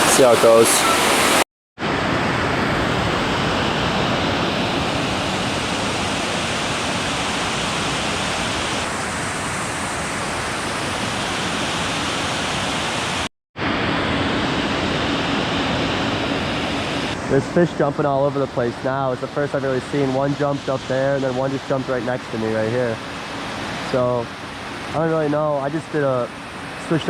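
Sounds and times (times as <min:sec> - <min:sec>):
water rushing over a dam: 0:00.0 - 0:01.4, 0:02.0 - 0:13.3, 0:14.7 - 0:27.0.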